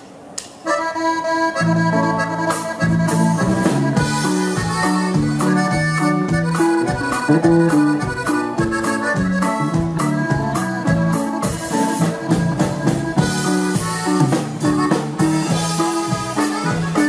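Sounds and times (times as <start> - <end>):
button accordion melody: 0.6 - 17.0
bass: 0.7 - 17.0
steady percussion: 1.6 - 17.0.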